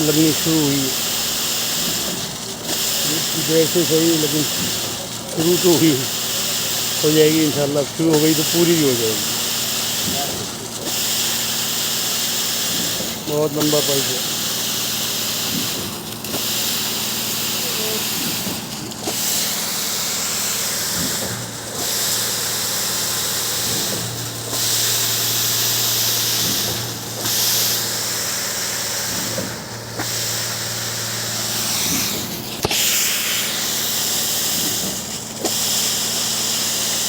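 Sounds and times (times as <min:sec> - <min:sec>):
concrete pump engine hum: 0:00.0 - 0:37.0
pump hiss: 0:00.0 - 0:37.0.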